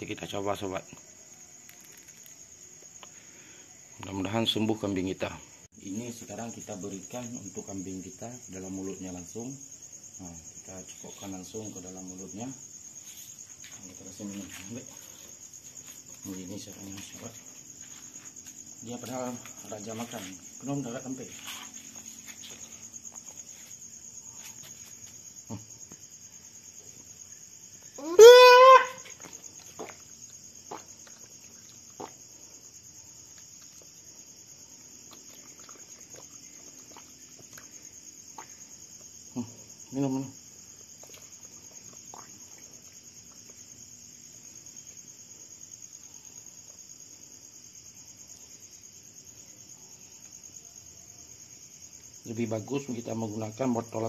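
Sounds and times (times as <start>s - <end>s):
crickets chirping: 0.0s - 54.0s
insects trilling: 0.0s - 54.0s.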